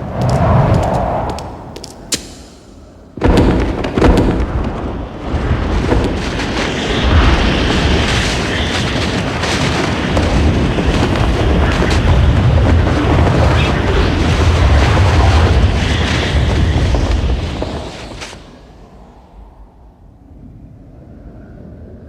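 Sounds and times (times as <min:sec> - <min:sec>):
explosion bangs: 0:00.0 - 0:18.8
rumble of blasts and crashes: 0:00.0 - 0:20.4.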